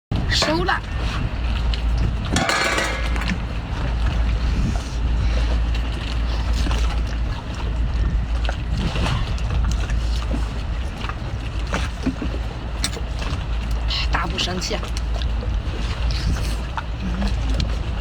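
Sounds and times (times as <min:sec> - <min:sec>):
wind buffeting microphone: 0:00.1 - 0:18.0.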